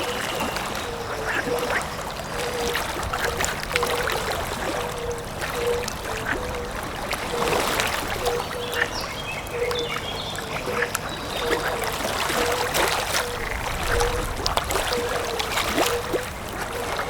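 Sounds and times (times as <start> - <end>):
water flowing and trickling: 0.0 - 17.0
water splashes and drips: 0.0 - 17.0.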